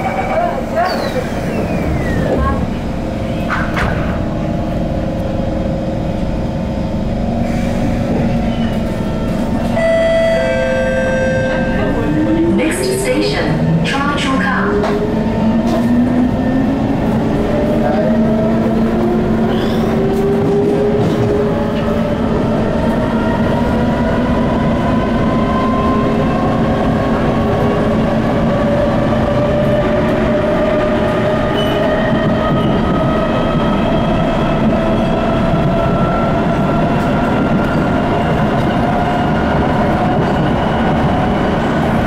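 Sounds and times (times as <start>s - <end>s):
train wheels rumbling on rails: 0.0s - 9.8s, 11.5s - 42.0s.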